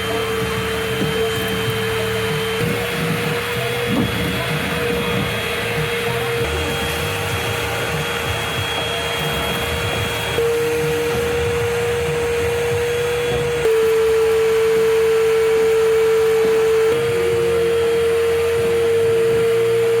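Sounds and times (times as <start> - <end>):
small electric motor whine: 0.0 - 20.0.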